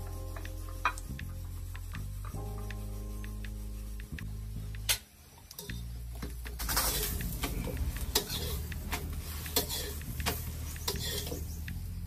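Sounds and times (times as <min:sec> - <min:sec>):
metal spatula scraping and tapping: 0:00.0 - 0:04.2, 0:05.6 - 0:11.8
oil sizzling: 0:00.0 - 0:12.0.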